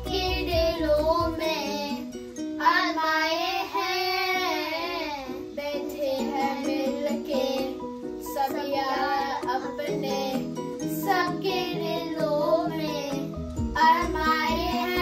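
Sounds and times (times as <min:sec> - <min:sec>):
children singing in unison: 0:00.0 - 0:15.0
instrumental backing music: 0:00.0 - 0:15.0.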